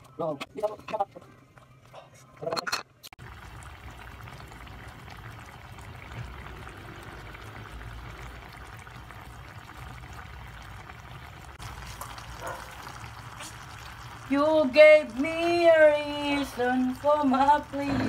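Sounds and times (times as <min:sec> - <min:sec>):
sauce bubbling and crackling: 0:03.0 - 0:18.0.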